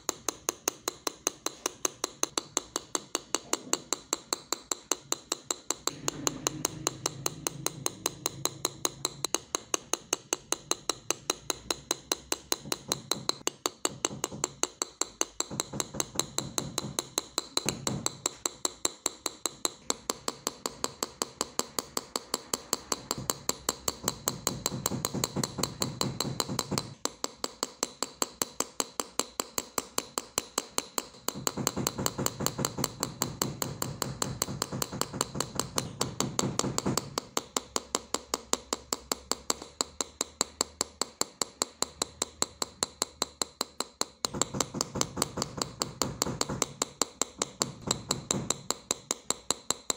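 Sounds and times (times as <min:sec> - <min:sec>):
hammer tapping metal punch: 0:00.0 - 0:49.9.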